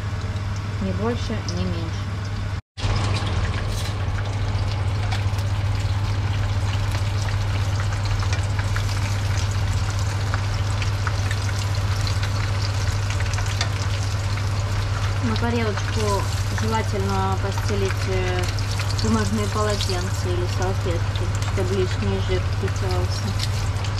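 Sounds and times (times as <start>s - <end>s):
food deep-frying in oil: 0.0s - 23.9s.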